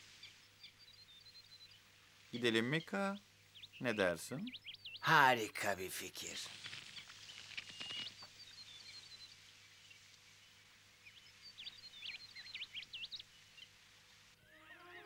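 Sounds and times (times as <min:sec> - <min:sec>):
small birds chirping: 0:00.0 - 0:15.0
soft steady hiss: 0:00.0 - 0:15.0.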